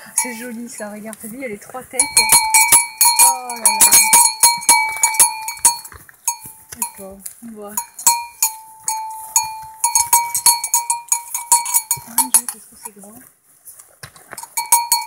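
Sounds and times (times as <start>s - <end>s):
horse neck bell clinking: 0.0s - 1.1s, 2.0s - 13.1s, 14.2s - 15.0s.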